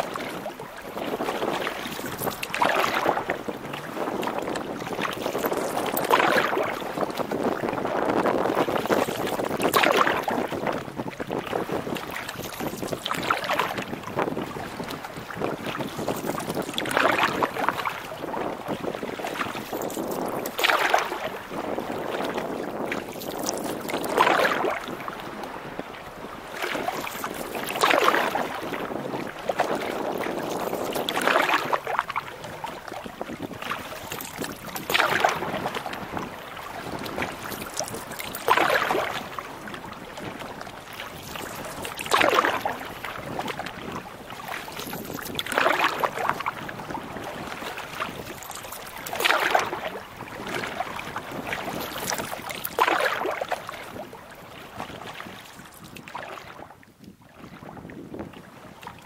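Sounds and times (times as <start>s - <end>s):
paddle splashing water: 0.0s - 59.0s.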